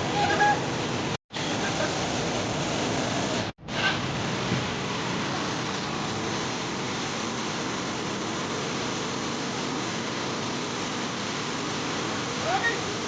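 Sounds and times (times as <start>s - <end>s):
water pouring over dam: 0.0s - 13.0s.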